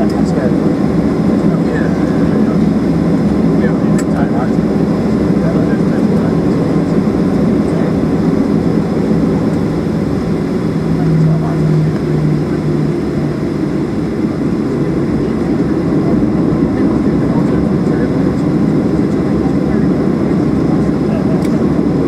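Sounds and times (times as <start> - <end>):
jet engines rumbling in cabin: 0.0 - 22.0
low hum: 0.0 - 22.0.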